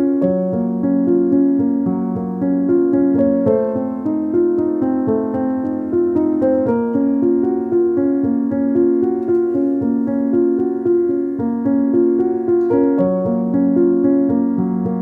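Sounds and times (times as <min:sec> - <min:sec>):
keyboard melody: 0:00.0 - 0:15.0.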